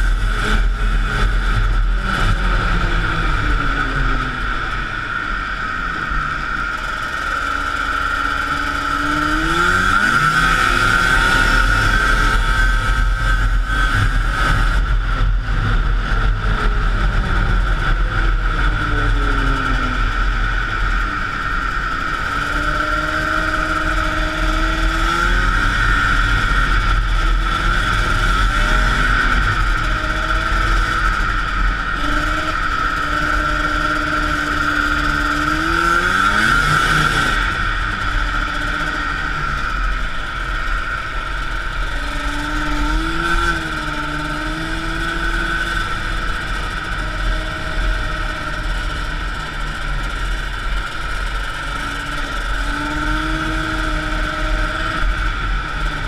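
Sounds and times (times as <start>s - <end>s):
snowmobile two-stroke engine running: 0.0s - 56.0s.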